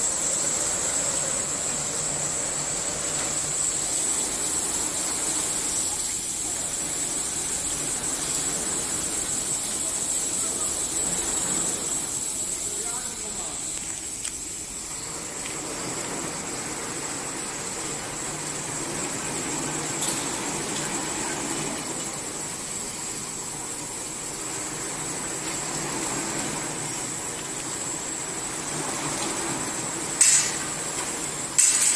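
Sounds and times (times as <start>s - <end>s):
machines whirring with high whine: 0.0s - 31.9s.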